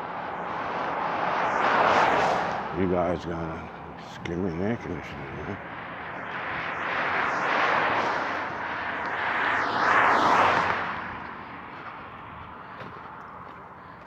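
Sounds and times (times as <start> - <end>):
vehicle driving past: 0.0 - 13.6.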